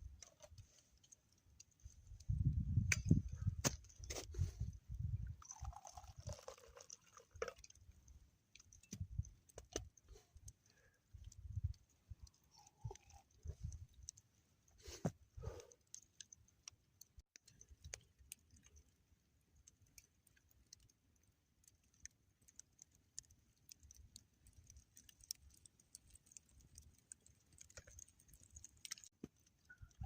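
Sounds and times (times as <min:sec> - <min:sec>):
faint irregular clicks: 0:05.4 - 0:30.0.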